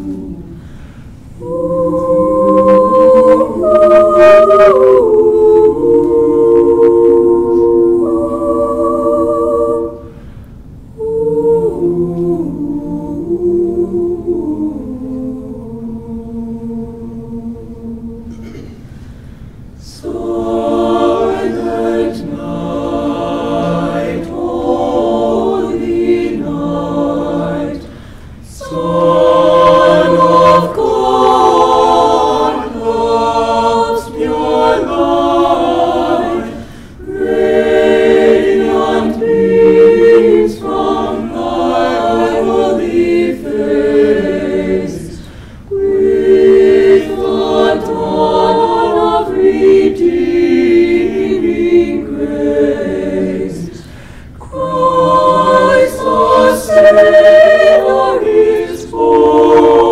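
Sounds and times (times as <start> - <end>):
choir singing a cappella: 0.0 - 59.9.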